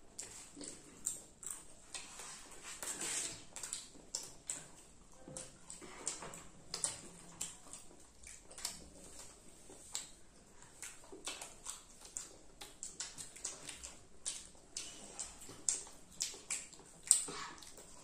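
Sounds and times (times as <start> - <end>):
children chewing food: 0.0 - 18.0.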